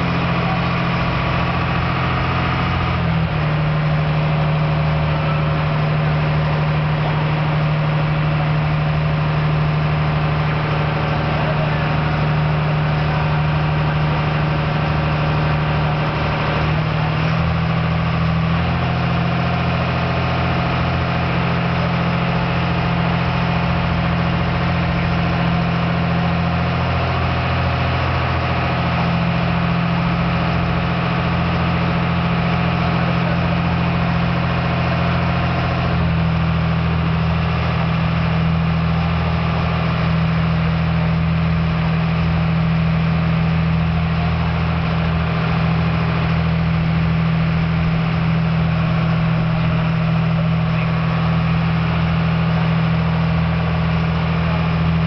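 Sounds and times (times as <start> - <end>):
ferry engine humming: 0.0 - 55.0.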